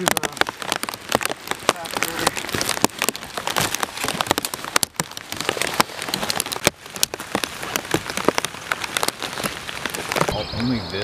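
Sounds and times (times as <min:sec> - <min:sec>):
rain on a plastic tarp: 0:00.0 - 0:11.0.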